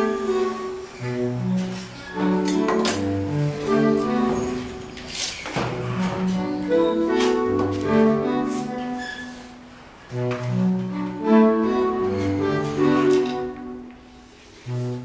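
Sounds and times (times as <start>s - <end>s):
bowed strings playing slow melody: 0.0s - 15.0s.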